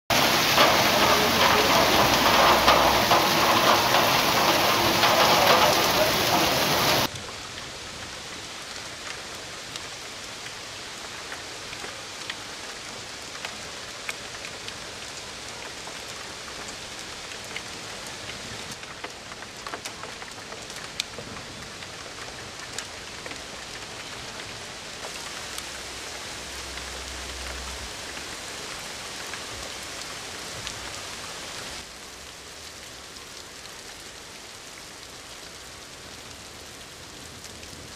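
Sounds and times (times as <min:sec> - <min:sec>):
hailstones ticking on ground: 0:00.1 - 0:37.9
rain on pavement: 0:00.1 - 0:37.9.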